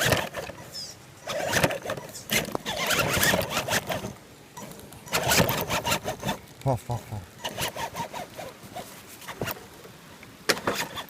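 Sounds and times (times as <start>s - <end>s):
wheels churning mud: 0.0s - 11.0s.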